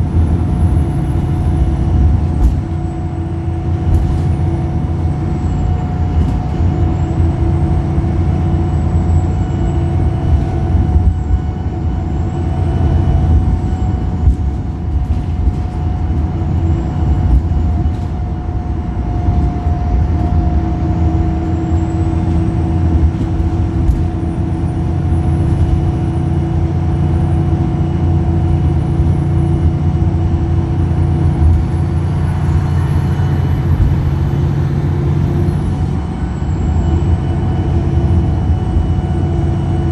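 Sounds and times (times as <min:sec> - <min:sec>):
diesel bus engine drone: 0:00.0 - 0:39.9.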